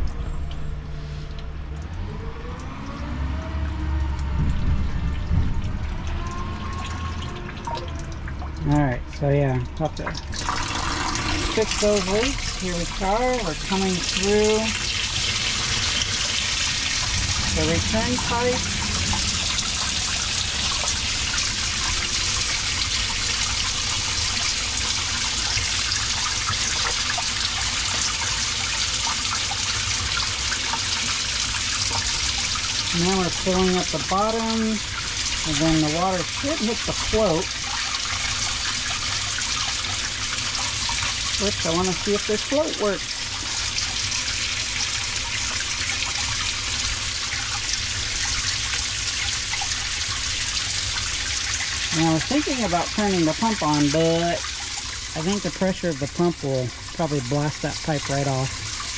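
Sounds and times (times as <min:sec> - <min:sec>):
water pouring into filter box: 0:00.0 - 0:58.9.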